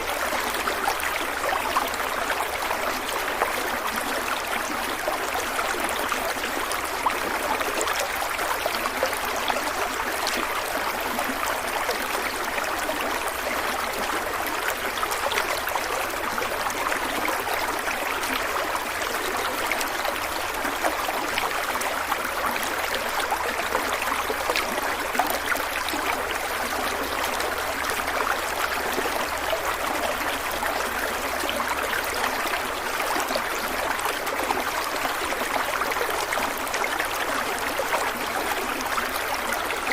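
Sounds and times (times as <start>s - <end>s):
stream water flowing over stones: 0.0s - 39.9s.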